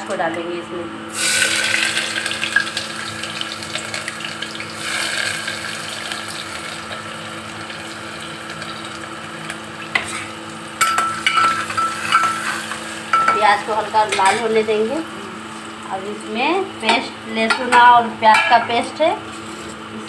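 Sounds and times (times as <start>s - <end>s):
onion sizzling in hot oil: 1.1s - 17.3s.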